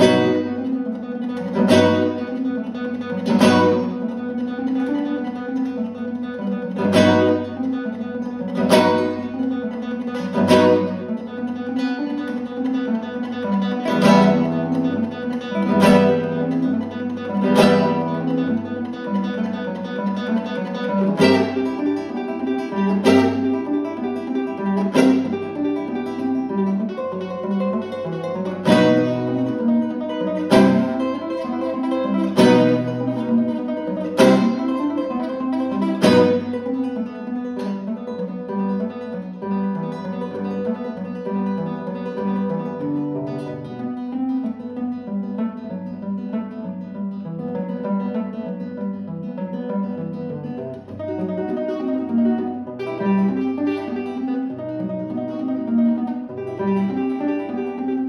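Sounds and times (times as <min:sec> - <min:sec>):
fingerstyle classical guitar: 0:00.0 - 0:58.0.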